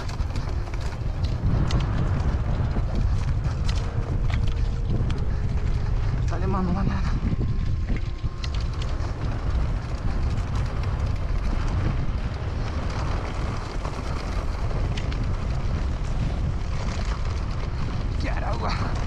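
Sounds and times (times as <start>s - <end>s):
bike rattling clicks: 0.0s - 19.0s
wind buffeting microphone: 0.0s - 19.0s.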